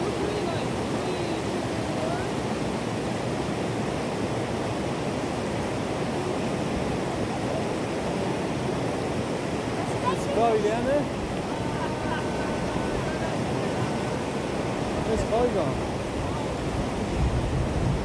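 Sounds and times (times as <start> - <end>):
creek cascading over rocks: 0.0 - 18.0.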